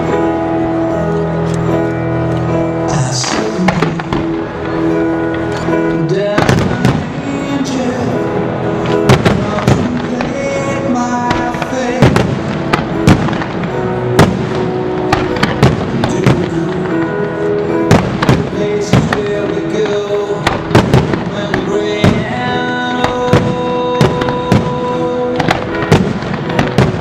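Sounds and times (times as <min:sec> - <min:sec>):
music with held notes: 0:00.0 - 0:27.0
fireworks bangs: 0:02.9 - 0:27.0.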